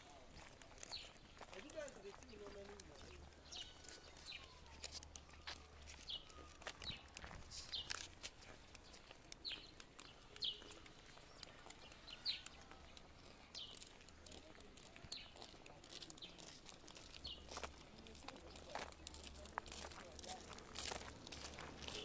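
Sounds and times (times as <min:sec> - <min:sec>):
footsteps on gravel: 0:00.0 - 0:22.0
birds chirping: 0:00.4 - 0:19.6.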